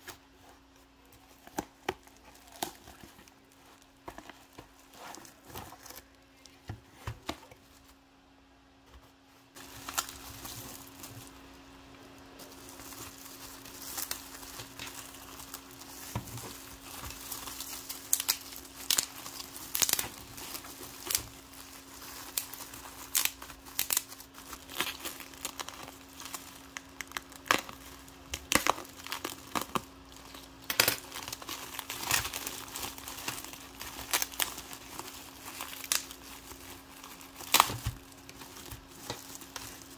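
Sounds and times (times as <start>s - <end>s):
bubble wrap crinkling: 0.0s - 8.2s, 8.8s - 39.9s.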